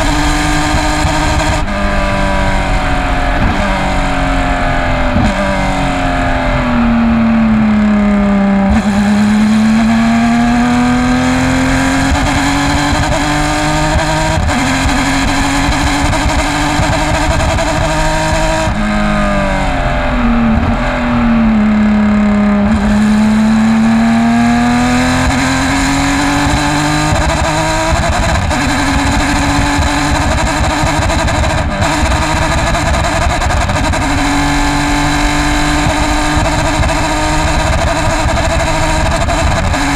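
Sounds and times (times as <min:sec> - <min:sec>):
misfiring race car engine: 0:00.0 - 0:39.9.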